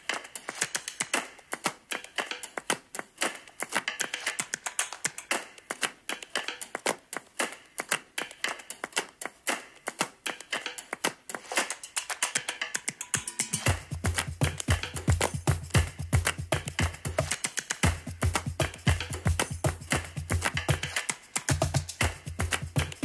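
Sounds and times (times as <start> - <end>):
sharp claps: 0.0 - 23.0.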